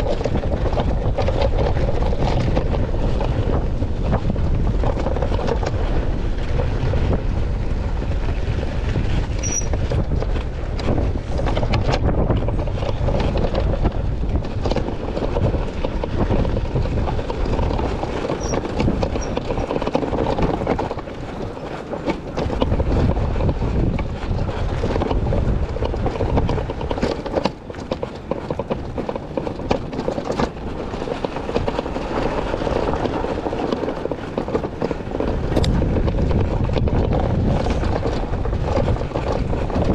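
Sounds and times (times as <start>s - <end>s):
bike knocking and rattling: 0.0s - 39.9s
wind and tyre rumble: 0.0s - 39.9s.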